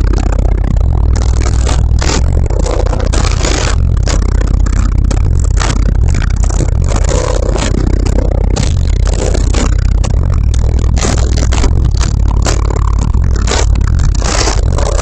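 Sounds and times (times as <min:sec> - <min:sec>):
bass-heavy music from subwoofers: 0:00.0 - 0:15.0.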